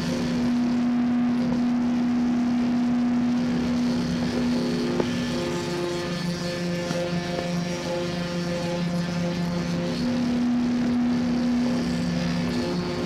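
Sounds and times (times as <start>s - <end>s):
electric guitar noise drone: 0.0s - 13.0s.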